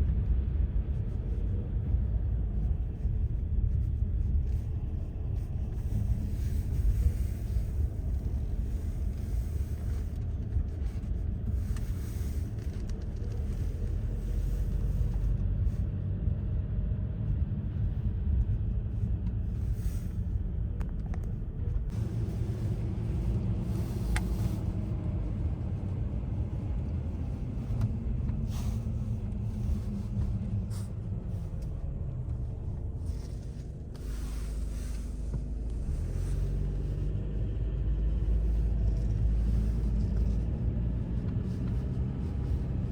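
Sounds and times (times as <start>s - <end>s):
vehicle engine and road drone: 0.0s - 42.9s.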